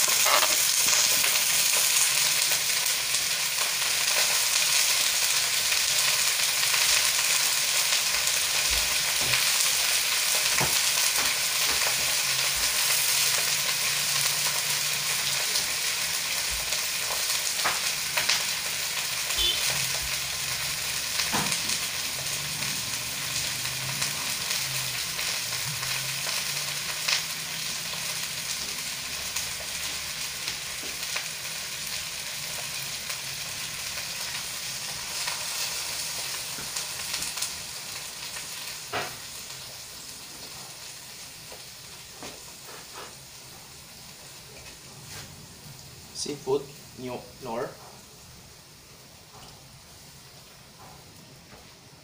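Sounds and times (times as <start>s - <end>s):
food sizzling in hot oil: 0.0s - 52.0s.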